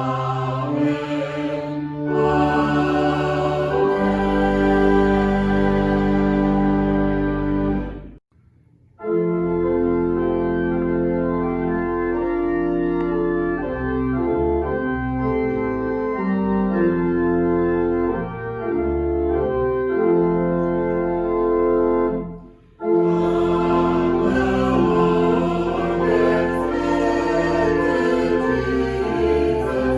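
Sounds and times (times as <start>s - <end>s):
organ playing sustained chords: 0.0s - 8.2s, 9.0s - 29.9s.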